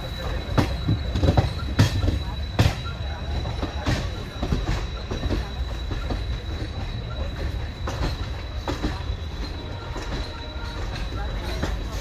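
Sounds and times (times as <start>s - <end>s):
thin steady high tone: 0.0s - 12.0s
train wheels rumbling on track: 0.0s - 12.0s
wheels clacking over rail joints: 0.0s - 12.0s.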